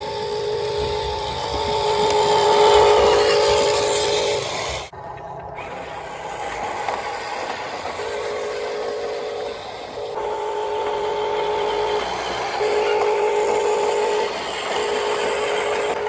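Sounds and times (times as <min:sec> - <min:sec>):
electric motor and gearbox whining: 0:00.0 - 0:16.0.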